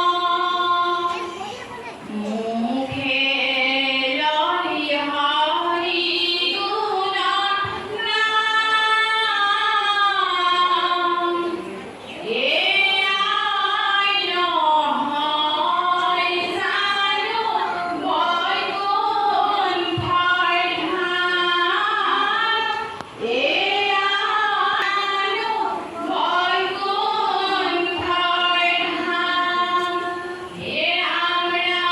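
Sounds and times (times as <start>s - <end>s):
group singing a hymn: 0.0s - 1.0s, 2.1s - 31.9s.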